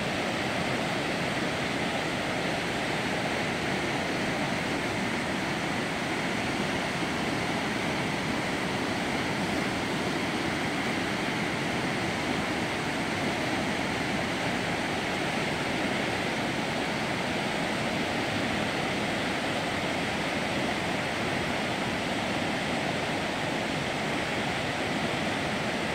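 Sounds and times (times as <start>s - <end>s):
flooded creek rushing: 0.0s - 25.9s.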